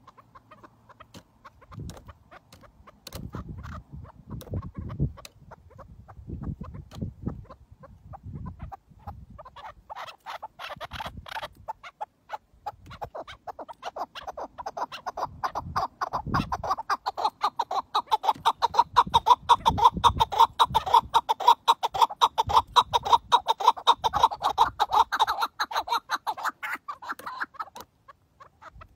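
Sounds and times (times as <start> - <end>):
partridge clucking call: 0.0 - 28.9.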